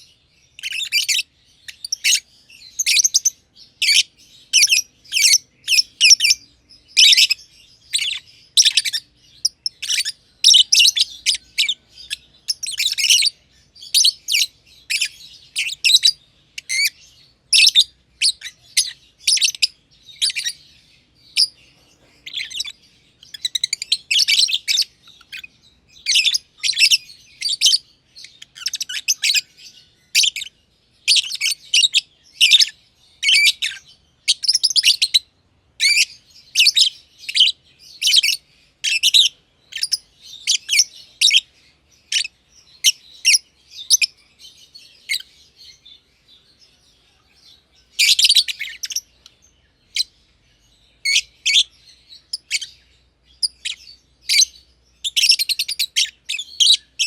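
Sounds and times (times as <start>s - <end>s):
lovebirds chirping: 0.0s - 57.0s.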